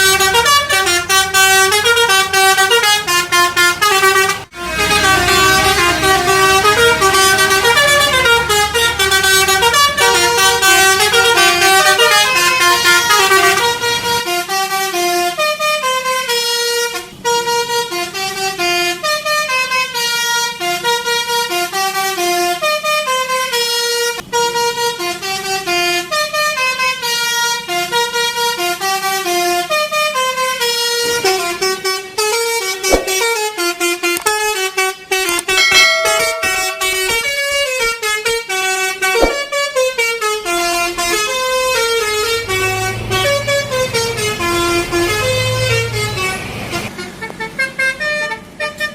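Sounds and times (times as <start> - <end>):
bus horn playing tunes: 0.0 - 48.9.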